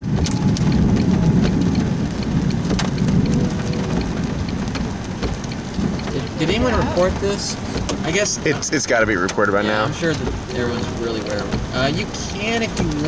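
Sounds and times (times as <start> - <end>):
rain and wind rumble around car: 0.0 - 13.0
raindrops ticking: 0.0 - 13.0.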